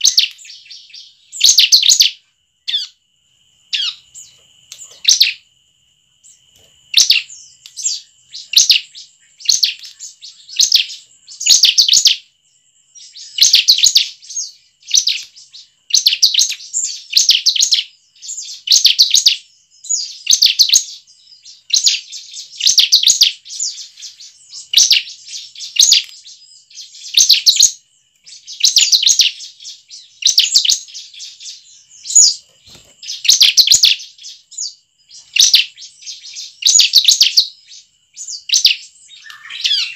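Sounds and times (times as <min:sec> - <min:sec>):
bird chirping rapidly: 0:00.0 - 0:03.0, 0:03.7 - 0:05.4, 0:06.3 - 0:12.3, 0:12.9 - 0:39.9.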